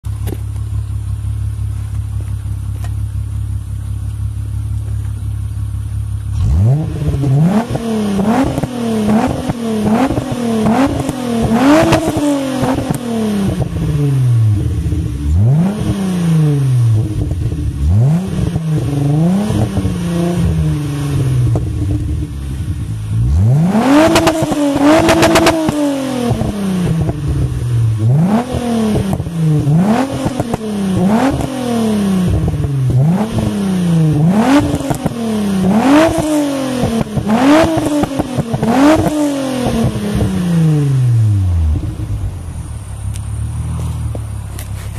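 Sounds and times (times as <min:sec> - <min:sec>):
car engine idling: 0:00.0 - 0:44.9
engine revving: 0:06.1 - 0:44.9.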